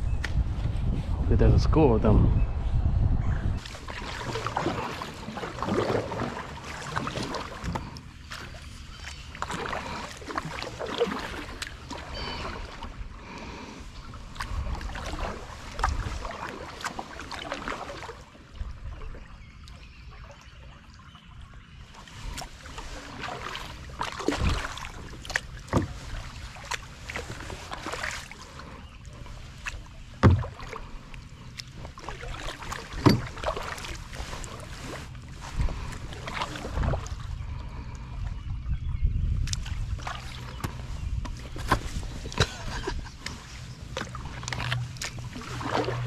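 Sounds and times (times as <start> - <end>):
paddle splashing in water: 3.6 - 38.4, 39.4 - 46.0.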